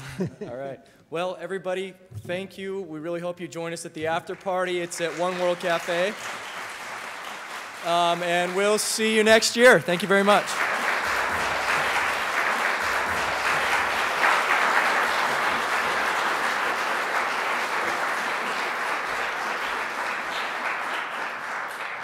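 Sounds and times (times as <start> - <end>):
audience applauding: 4.3 - 22.0.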